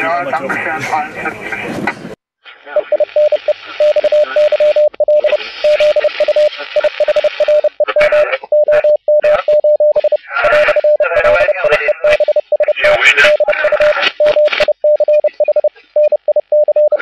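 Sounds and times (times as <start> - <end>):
radio hiss and static: 0.0 - 16.0
morse code beeping tone: 2.9 - 17.0.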